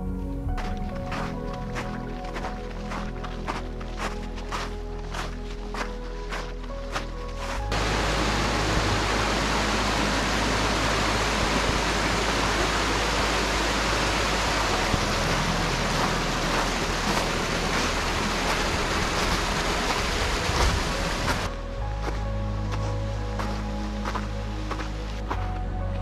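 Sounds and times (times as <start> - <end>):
stream rushing over rocks: 0.6 - 25.4.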